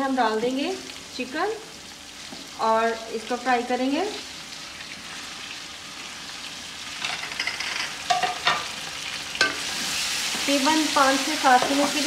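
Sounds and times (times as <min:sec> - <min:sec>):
chicken sizzling in pot: 0:00.0 - 0:12.0.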